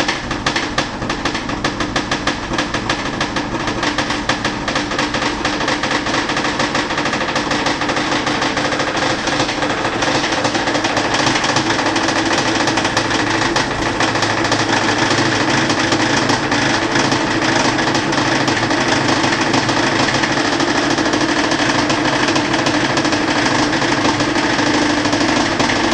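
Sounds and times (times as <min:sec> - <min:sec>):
washing machine rattling spin: 0:00.0 - 0:25.9.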